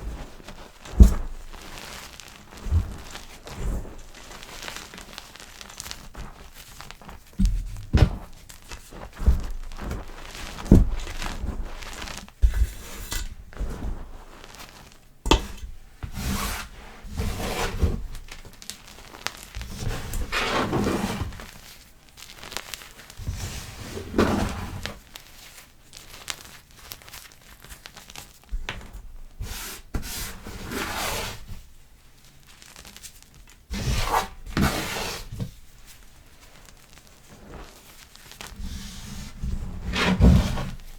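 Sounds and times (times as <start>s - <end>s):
chalk crumbling by hand: 0.0s - 31.4s, 32.4s - 40.9s.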